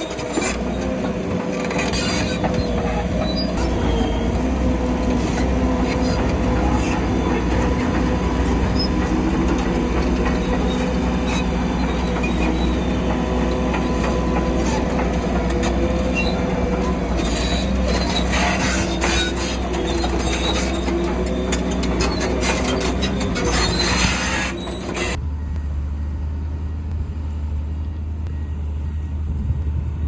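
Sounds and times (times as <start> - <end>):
steel tracks squealing and clanking: 0.0 - 25.6
bulldozer diesel engine running: 0.0 - 30.0.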